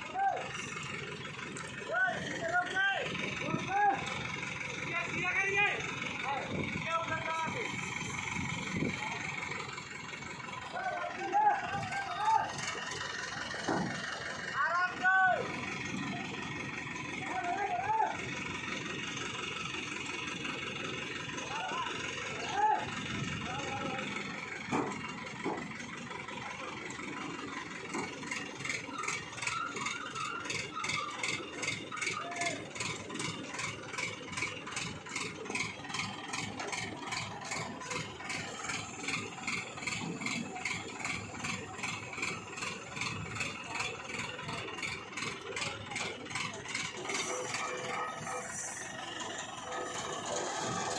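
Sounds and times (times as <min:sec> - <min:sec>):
crane engine running with pulsing: 0:00.0 - 0:50.9.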